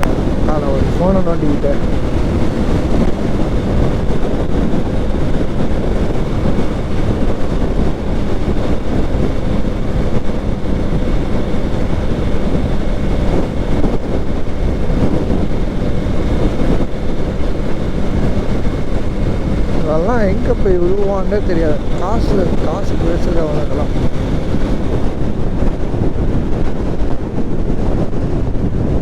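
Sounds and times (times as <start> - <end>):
motorcycle engine drone: 0.0 - 29.0
wind rushing over microphone: 0.0 - 29.0.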